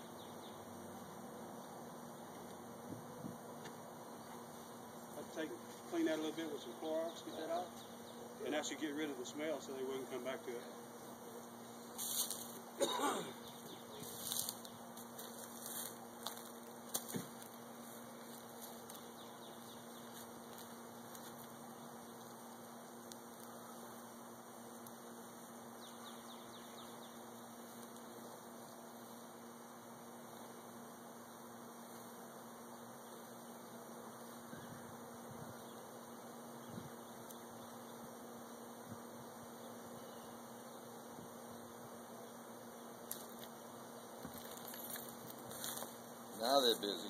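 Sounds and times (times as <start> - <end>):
bee swarm buzzing: 0.0 - 47.0.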